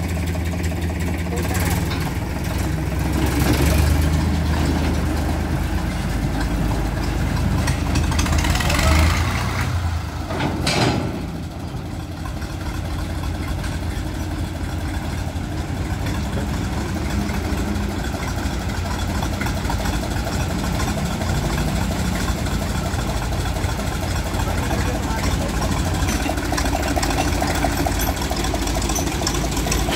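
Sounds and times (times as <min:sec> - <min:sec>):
tractor engine idling: 0:00.0 - 0:29.9.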